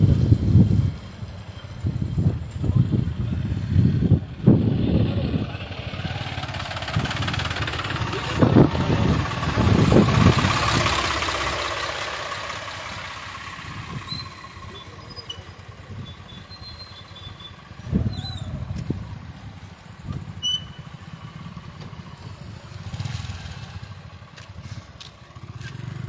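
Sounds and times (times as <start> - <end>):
motorcycle engine: 0.0 - 26.0
tractor diesel engines passing: 0.0 - 26.0
wind: 0.0 - 26.0.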